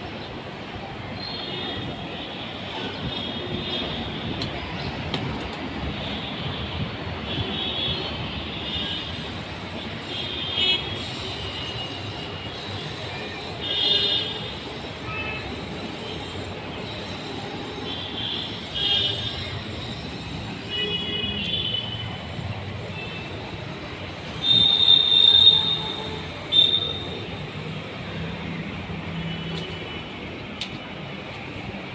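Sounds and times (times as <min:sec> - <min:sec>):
urban background noise: 0:00.0 - 0:31.9.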